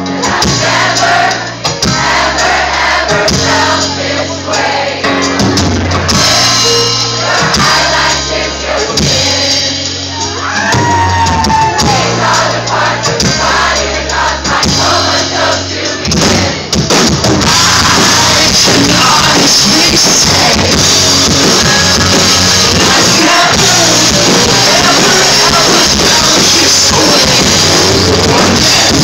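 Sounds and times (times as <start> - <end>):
bass notes: 0.0 - 29.0
live rock band playing: 0.0 - 29.0.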